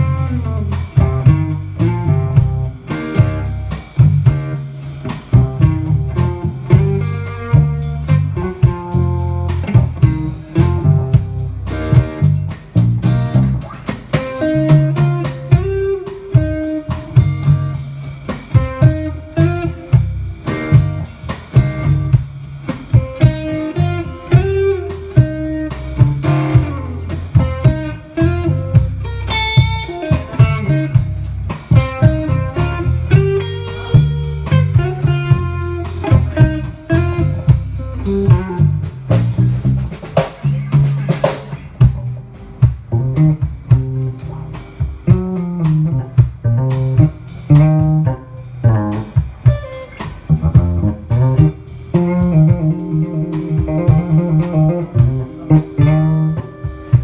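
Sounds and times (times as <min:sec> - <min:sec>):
bass guitar: 0:00.0 - 0:57.0
drum-kit beat: 0:00.0 - 0:57.0
electric guitar melody: 0:00.0 - 0:57.0.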